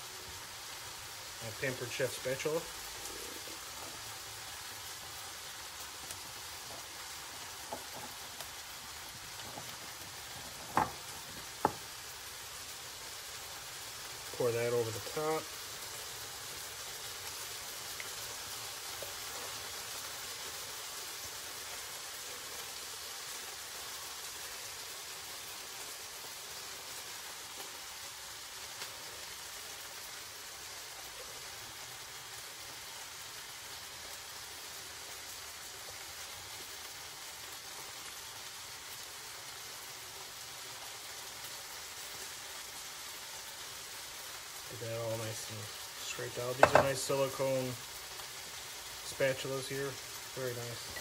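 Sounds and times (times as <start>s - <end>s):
chicken sizzling in a pan: 0.0s - 51.0s.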